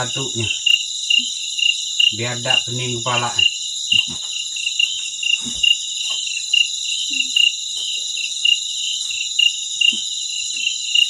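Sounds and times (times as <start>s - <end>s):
high-pitched insect drone: 0.0s - 11.0s
pulsing insect chirp: 0.0s - 11.0s.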